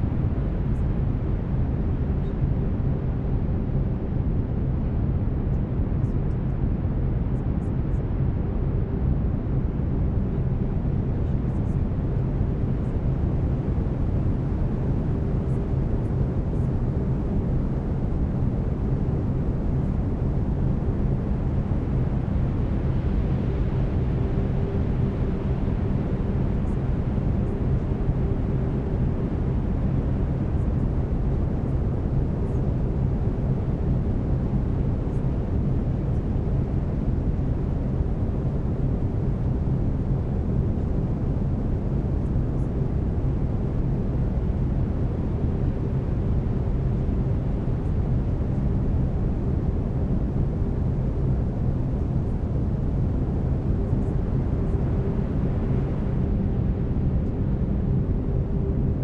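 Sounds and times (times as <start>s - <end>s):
brown noise rumbling hiss: 9.5s - 59.0s.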